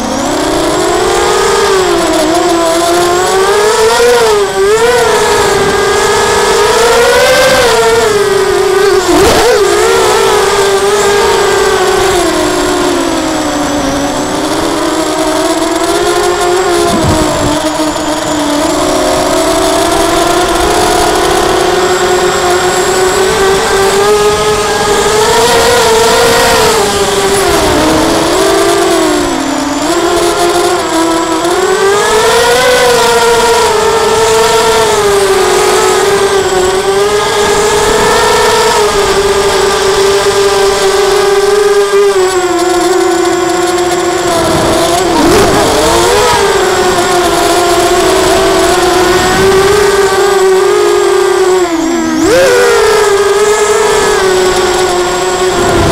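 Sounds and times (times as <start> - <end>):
drone motors whining: 0.0 - 55.9.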